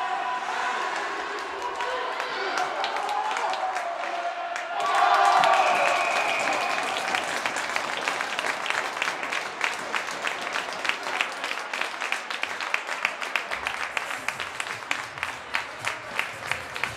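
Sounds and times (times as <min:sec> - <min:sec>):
crowd clapping: 0:00.8 - 0:16.9.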